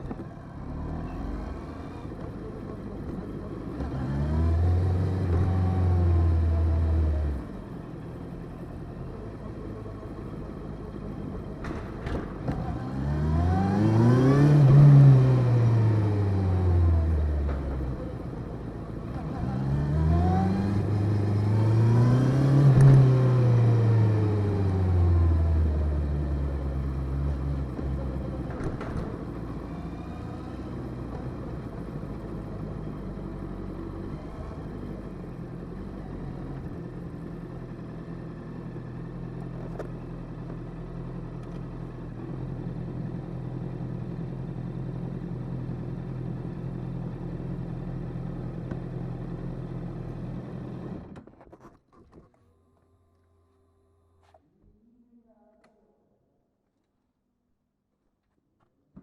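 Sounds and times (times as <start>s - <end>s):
motorcycle engine slowing and idling: 0.0s - 51.6s.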